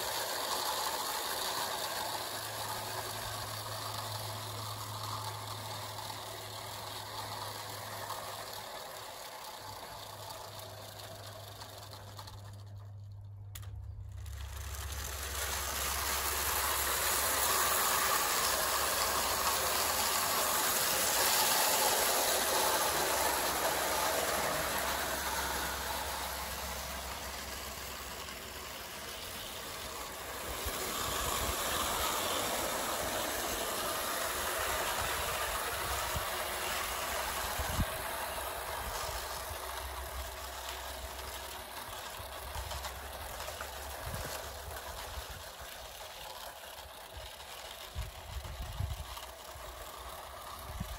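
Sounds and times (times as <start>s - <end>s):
clockwork motor whirring: 0.0s - 50.9s
toy train wheels rattling on rails: 0.0s - 50.9s.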